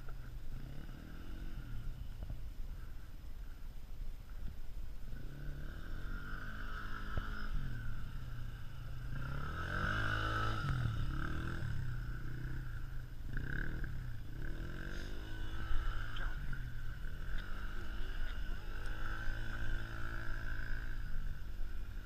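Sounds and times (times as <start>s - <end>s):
quad bike engine revving: 0.0s - 2.0s, 5.1s - 22.0s.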